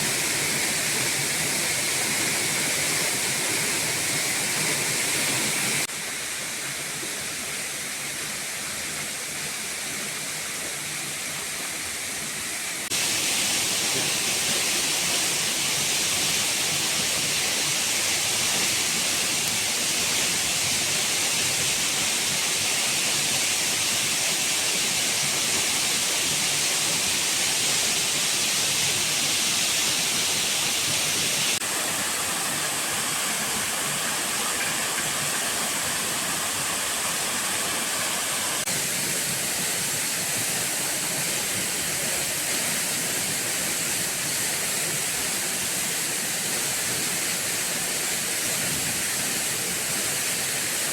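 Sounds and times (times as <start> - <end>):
rush of falling water: 0.0 - 50.9.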